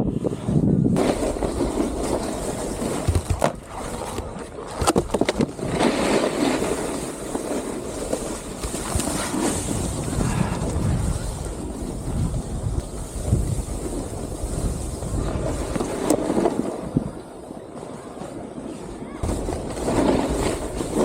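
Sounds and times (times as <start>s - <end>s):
wind on microphone: 0.0s - 17.6s
snowboard scraping over snow: 0.0s - 21.0s.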